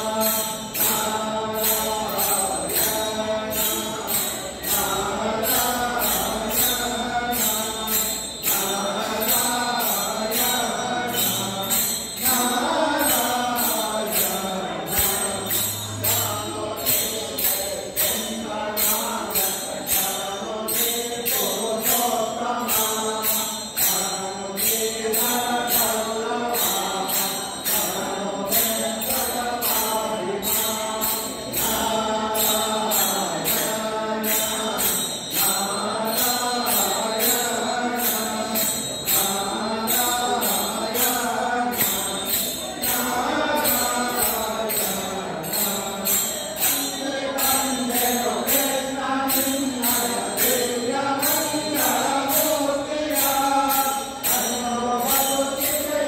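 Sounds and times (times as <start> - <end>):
group of voices singing: 0.0 - 56.0
hand cymbals struck: 0.0 - 56.0.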